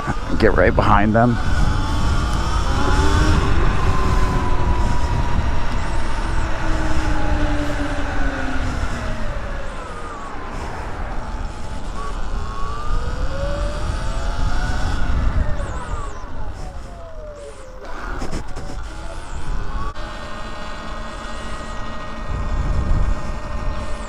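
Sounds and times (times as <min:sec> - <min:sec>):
wind on microphone: 0:00.0 - 0:20.3, 0:21.7 - 0:24.0
electric motor whine: 0:00.0 - 0:24.0.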